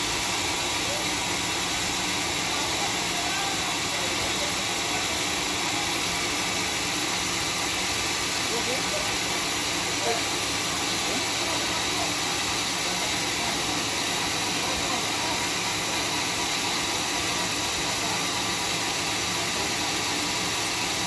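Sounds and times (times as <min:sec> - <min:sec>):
band sawmill running: 0:00.0 - 0:21.0.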